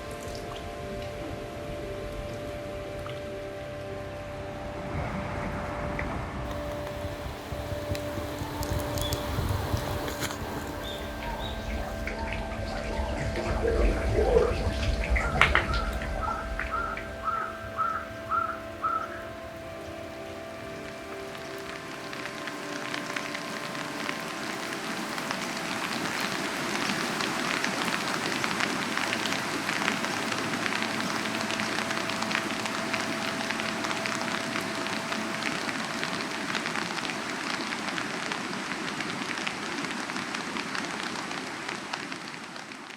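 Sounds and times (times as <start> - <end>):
rain on a hard surface: 0.0 - 42.9.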